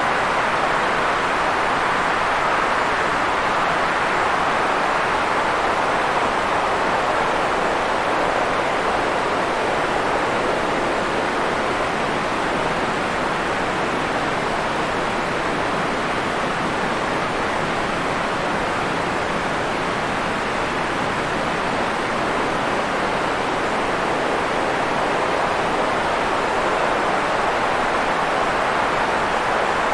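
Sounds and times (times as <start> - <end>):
steady white noise hiss: 0.0 - 29.9.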